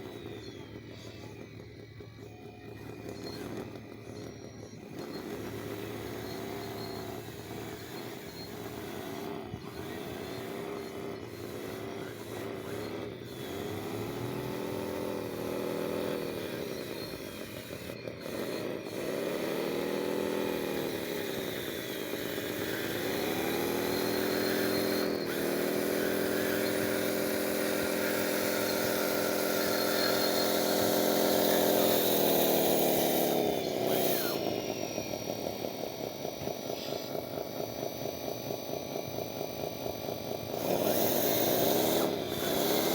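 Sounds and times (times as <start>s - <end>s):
small electric motor whining: 0.0s - 42.9s.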